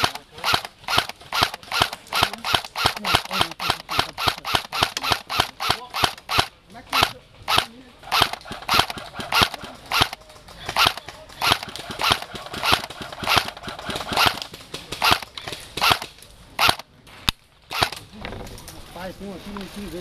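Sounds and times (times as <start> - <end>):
airsoft gun shots: 0.0 - 16.8, 17.7 - 18.0.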